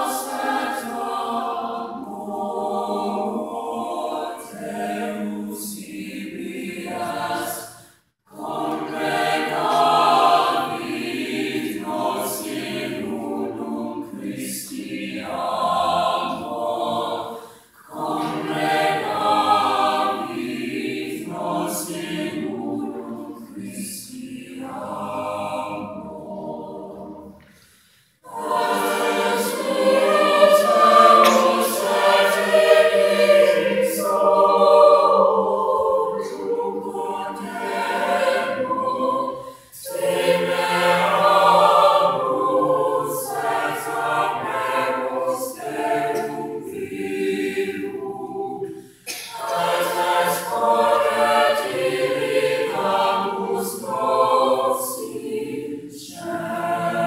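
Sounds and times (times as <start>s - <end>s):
mixed-voice choir singing: 0.0s - 57.0s.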